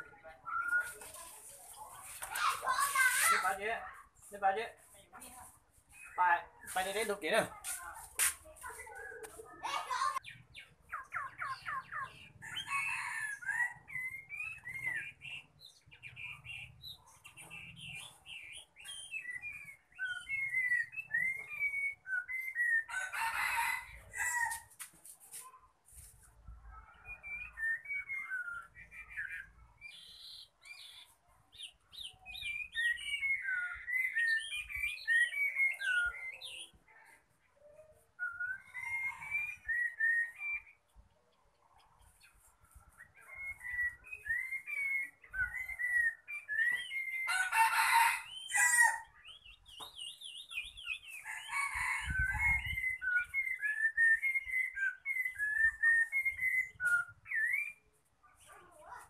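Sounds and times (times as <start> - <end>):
songbird singing: 0.0 - 24.8, 25.4 - 59.0.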